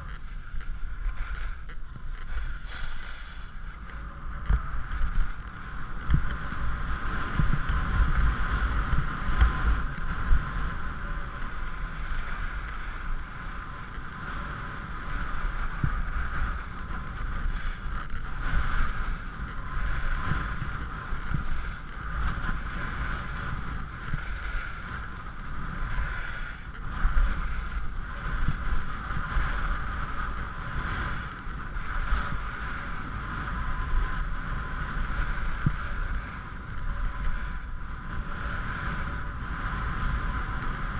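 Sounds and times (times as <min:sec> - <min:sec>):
skis scraping over snow: 0:00.0 - 0:40.9
wind rumble on microphone: 0:00.0 - 0:40.9.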